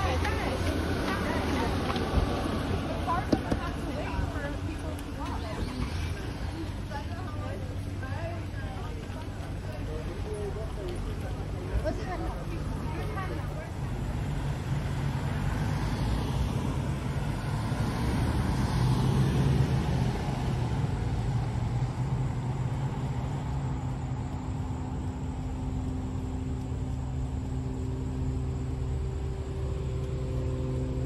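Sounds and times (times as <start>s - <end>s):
cars driving past: 0.0s - 31.0s
low engine hum: 0.0s - 31.0s.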